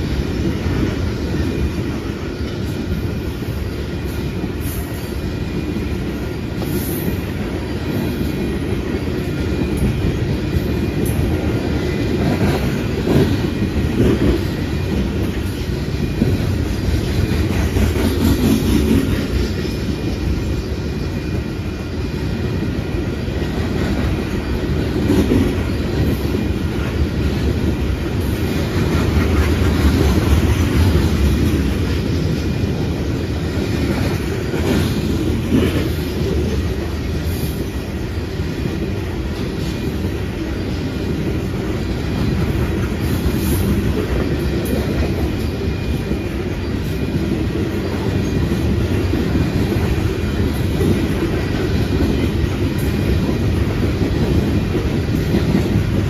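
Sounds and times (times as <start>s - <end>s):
freight train wheels rumbling on rail: 0.0s - 56.0s
train wheel clacks: 0.0s - 56.0s.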